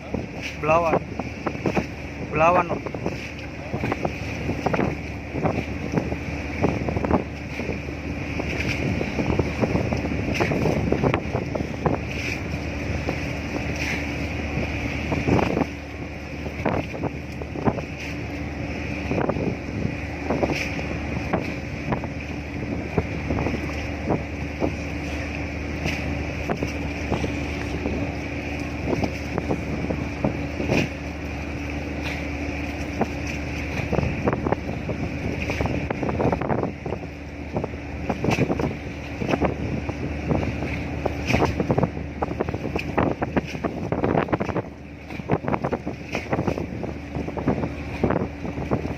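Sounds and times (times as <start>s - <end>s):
boat engine humming: 0.0s - 48.9s
wind noise on microphone: 0.0s - 48.9s.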